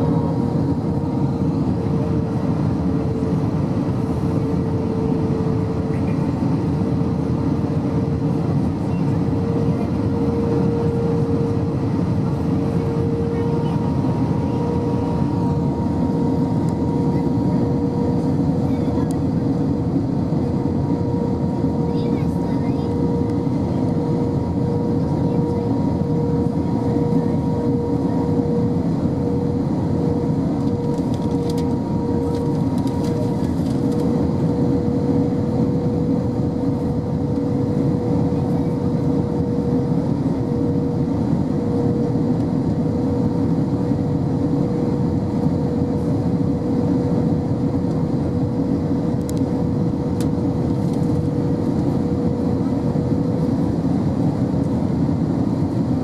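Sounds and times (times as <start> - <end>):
airplane cabin engine rush: 0.0 - 56.0.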